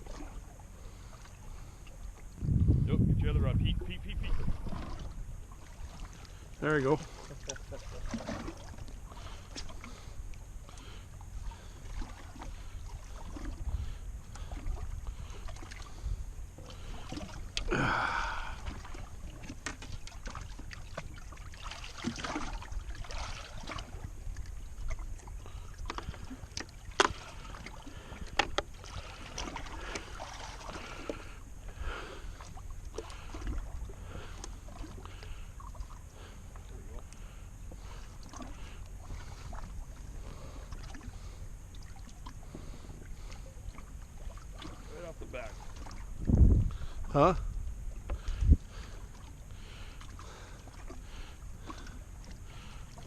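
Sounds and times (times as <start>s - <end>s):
steady low rumble: 0.0s - 21.8s, 22.5s - 53.0s.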